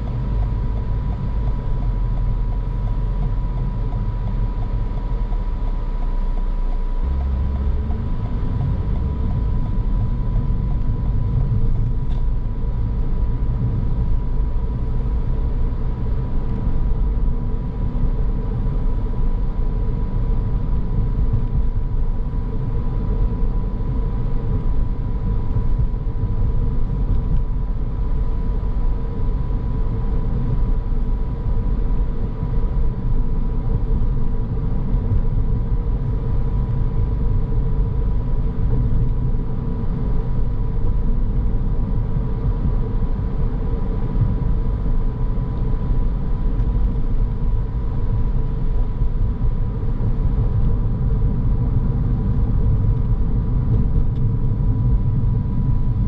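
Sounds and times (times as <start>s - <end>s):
car engine: 0.0s - 56.0s
faint steady hum: 0.0s - 56.0s
road and tyre rumble: 0.0s - 56.0s.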